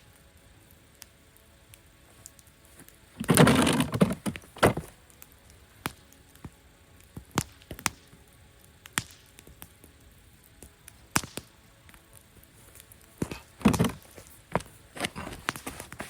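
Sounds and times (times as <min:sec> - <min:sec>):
campfire wood crackling: 0:00.0 - 0:16.0
sharp crack: 0:01.7 - 0:16.0.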